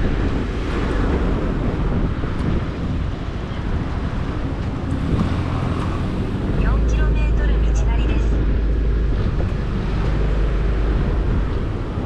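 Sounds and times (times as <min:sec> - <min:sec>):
motorcycle engine and road noise: 0:00.0 - 0:12.0
wind buffeting the microphone: 0:00.0 - 0:12.0.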